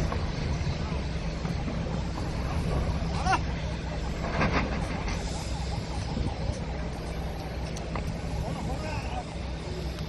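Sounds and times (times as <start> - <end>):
low rumble of ship launching: 0.0 - 10.0.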